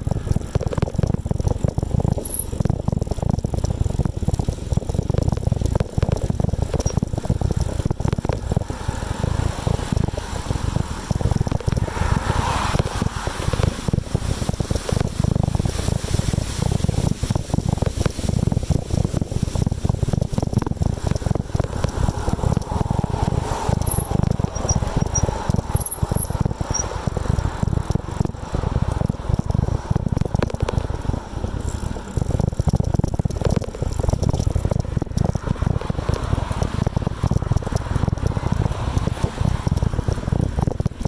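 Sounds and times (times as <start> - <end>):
bike and road rattle: 0.0 - 41.0
wind buffeting microphone: 0.0 - 41.0.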